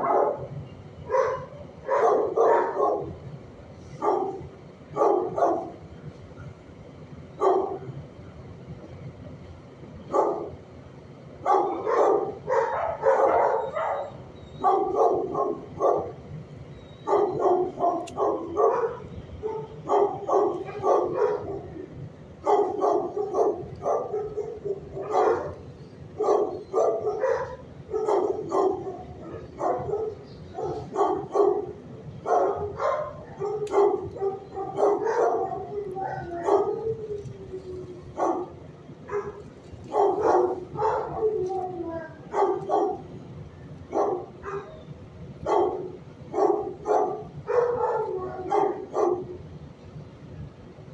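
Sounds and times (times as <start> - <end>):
dogs barking: 0.0 - 3.3, 3.9 - 5.9, 7.4 - 8.0, 10.1 - 10.6, 11.4 - 16.3, 17.0 - 43.2, 43.8 - 49.5.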